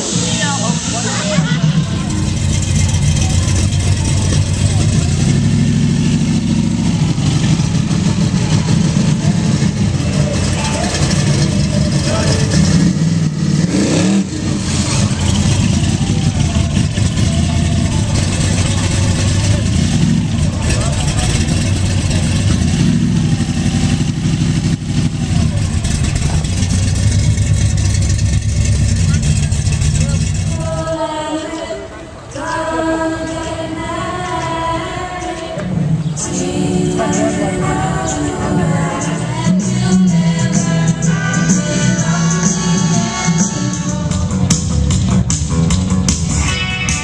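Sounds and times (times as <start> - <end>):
car engine low rumble: 0.0 - 47.0.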